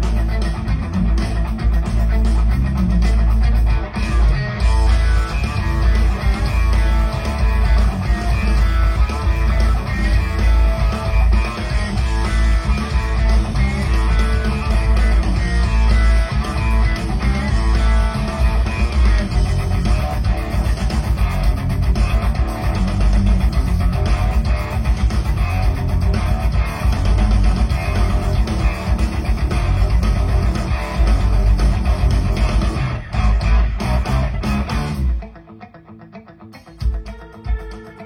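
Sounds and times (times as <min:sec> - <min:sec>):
heavy bass line: 0:00.0 - 0:35.3
guitar-led instrumental music: 0:00.0 - 0:38.0.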